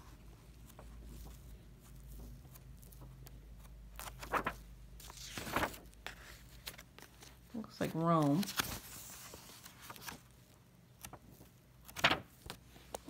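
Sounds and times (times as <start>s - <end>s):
book pages turning: 0.3s - 13.0s.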